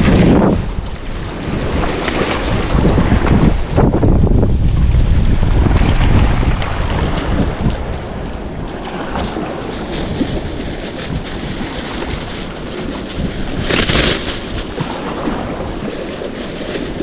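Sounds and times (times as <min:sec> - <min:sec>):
sea waves on shore: 0:00.0 - 0:17.0
wind buffeting microphone: 0:00.0 - 0:17.0.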